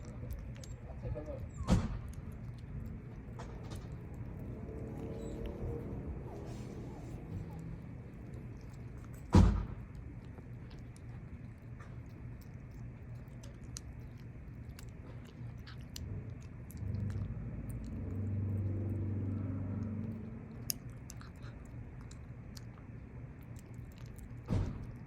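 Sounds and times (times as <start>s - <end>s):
cat chewing food: 0.0s - 25.0s
low steady hum: 0.0s - 25.0s.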